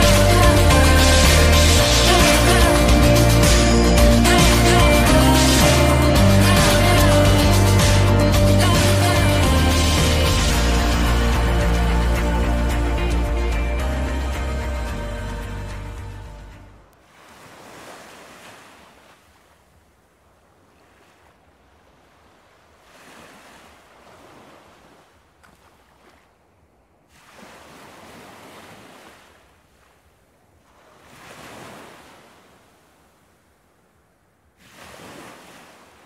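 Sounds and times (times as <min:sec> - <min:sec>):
faint ocean waves: 0:00.0 - 0:36.0.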